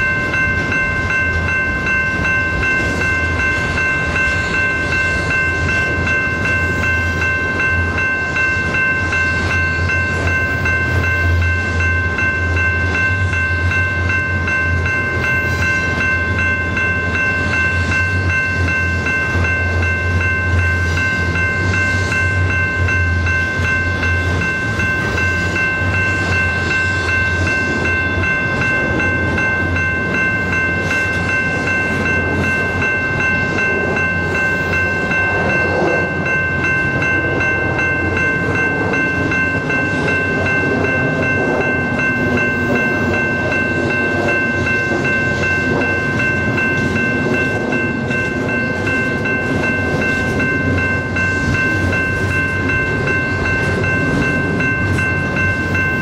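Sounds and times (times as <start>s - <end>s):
high-pitched ringing tone: 0.0s - 56.0s
train cars rumbling past: 0.0s - 56.0s.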